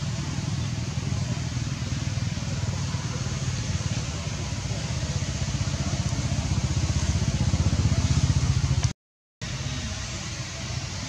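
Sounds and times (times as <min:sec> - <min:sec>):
engine running with low pulse: 0:00.0 - 0:11.0.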